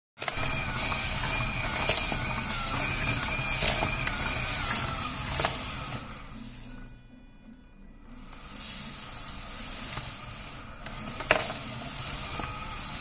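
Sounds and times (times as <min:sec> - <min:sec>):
polishing media sliding in drum: 0:00.2 - 0:06.8, 0:08.3 - 0:13.0
gear motor: 0:00.2 - 0:13.0.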